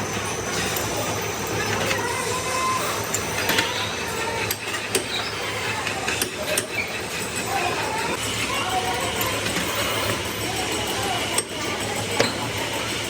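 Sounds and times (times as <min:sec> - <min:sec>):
workshop machinery running: 0:00.0 - 0:13.0.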